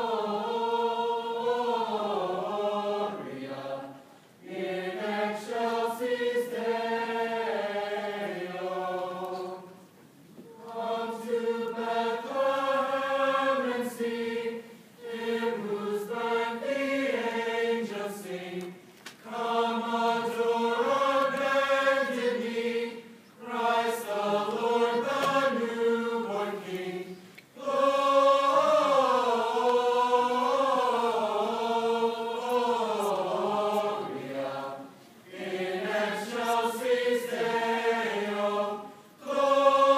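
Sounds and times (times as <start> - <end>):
choir singing slowly: 0.0 - 39.9.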